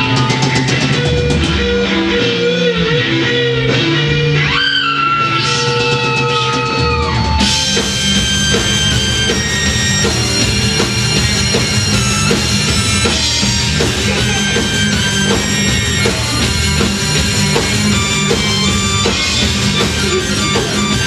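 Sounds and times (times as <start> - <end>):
bass: 0.0 - 21.0
drum kit: 0.0 - 21.0
electric guitar: 0.0 - 21.0
keyboard: 0.0 - 21.0.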